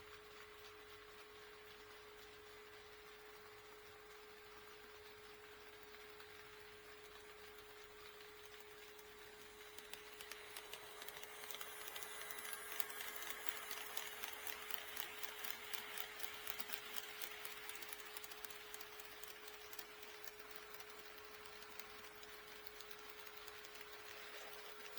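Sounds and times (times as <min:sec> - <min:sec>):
model train ticking: 0:00.0 - 0:24.9.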